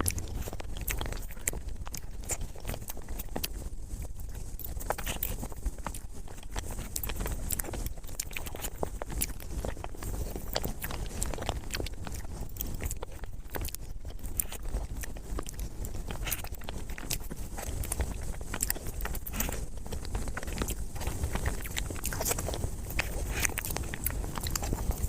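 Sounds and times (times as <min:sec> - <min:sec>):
chewing and mouth clicks: 0:00.0 - 0:25.0
steady low hum: 0:00.0 - 0:25.0.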